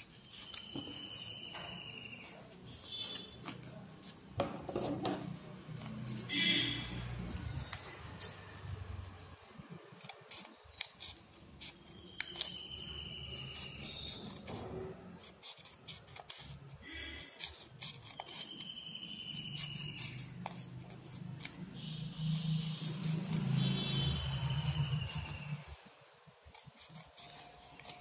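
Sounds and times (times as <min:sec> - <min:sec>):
scissors snipping paper: 0:00.0 - 0:04.4, 0:05.2 - 0:28.0.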